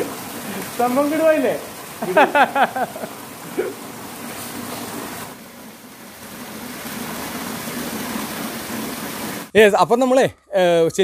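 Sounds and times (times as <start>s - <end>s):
fountain water splashing: 0.0s - 9.6s.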